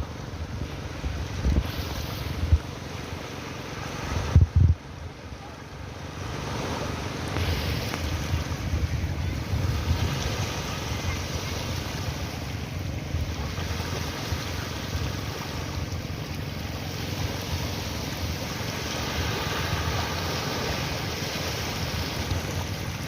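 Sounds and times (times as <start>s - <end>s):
wind buffeting the microphone: 0.0s - 2.9s, 3.8s - 5.2s, 6.3s - 23.0s
sea waves washing: 0.0s - 23.0s.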